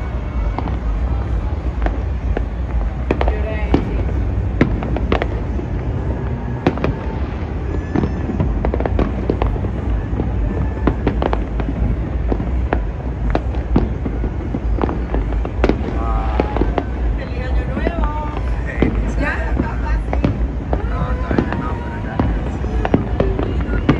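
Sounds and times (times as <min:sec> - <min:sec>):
fireworks bangs and pops: 0:00.0 - 0:23.9
steady low rumble: 0:00.0 - 0:23.9.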